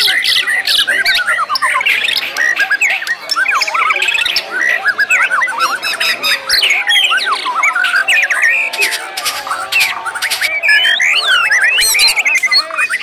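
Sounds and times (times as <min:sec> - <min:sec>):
chorus of birds singing: 0:00.0 - 0:13.0
harsh bird calls: 0:00.0 - 0:13.0.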